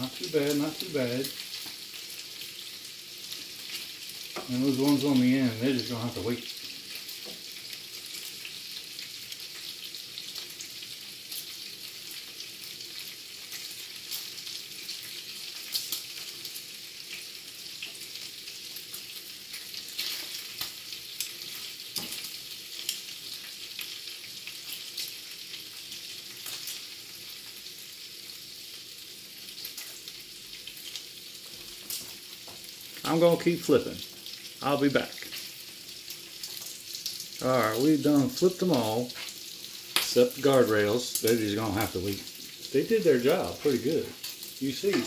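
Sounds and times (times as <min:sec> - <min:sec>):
bacon sizzling and crackling: 0:00.0 - 0:45.0.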